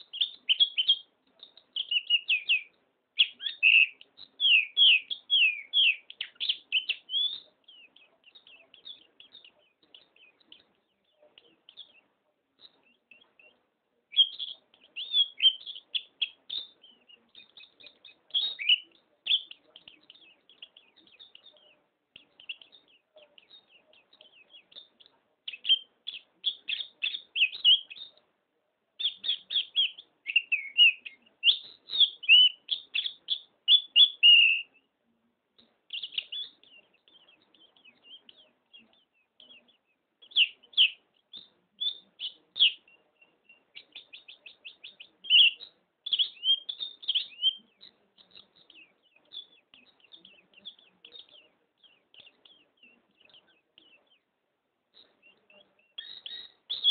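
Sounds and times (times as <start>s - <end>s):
soft bird twittering: 0.0s - 28.4s, 29.0s - 34.9s, 35.6s - 56.9s
songbird chirping: 0.0s - 56.9s.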